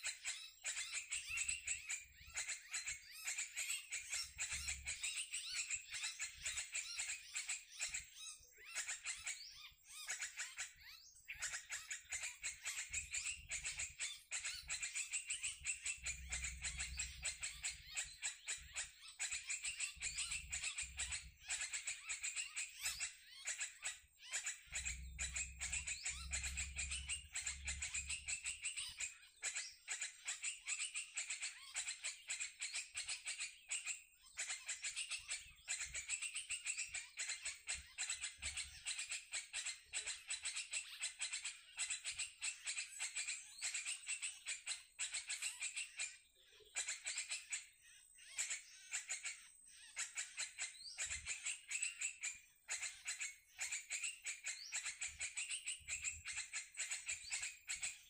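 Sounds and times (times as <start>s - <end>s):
birds chattering: 0.0s - 58.0s.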